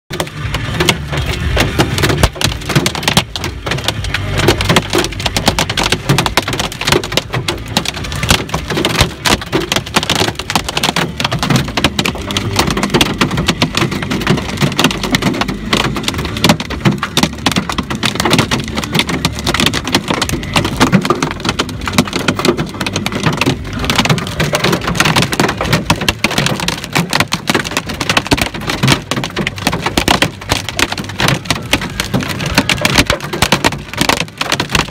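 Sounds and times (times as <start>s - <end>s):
hail pelting a car windshield: 0.1s - 34.9s.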